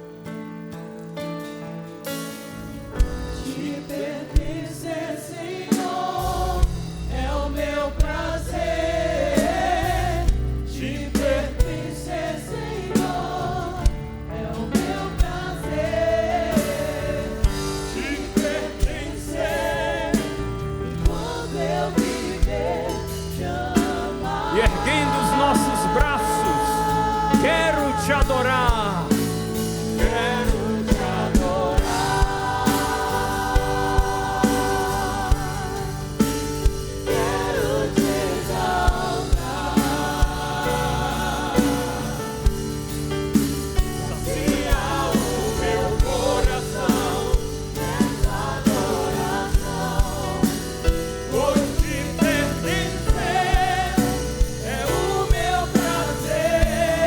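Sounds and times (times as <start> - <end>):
voices singing worship song: 2.3 - 57.0
band playing with steady beat: 5.8 - 57.0.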